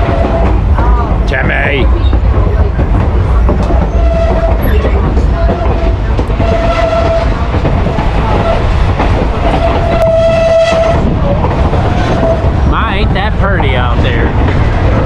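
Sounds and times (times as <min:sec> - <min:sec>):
train cars rumbling: 0:00.0 - 0:15.0.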